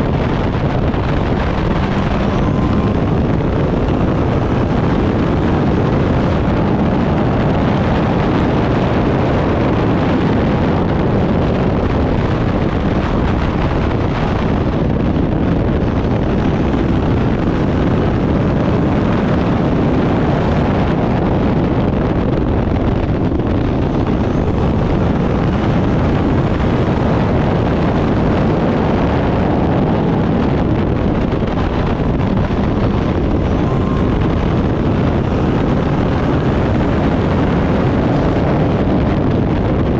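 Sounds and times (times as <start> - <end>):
race car engine running: 0.0 - 39.9
wind noise on microphone: 0.0 - 39.9.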